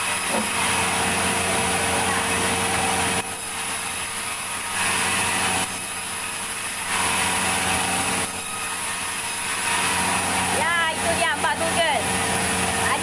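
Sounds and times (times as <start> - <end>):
log saw whining: 0.0 - 13.0.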